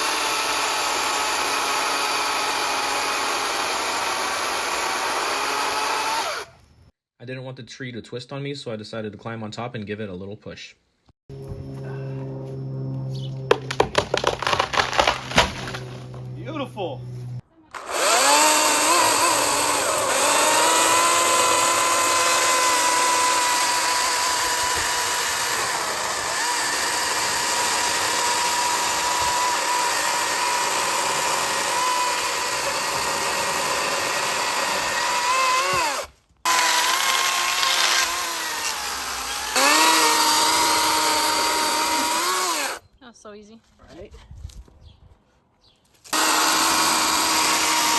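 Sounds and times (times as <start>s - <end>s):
electric chainsaw cutting wood: 0.0s - 6.6s, 11.3s - 16.6s, 17.7s - 42.8s, 46.1s - 47.9s.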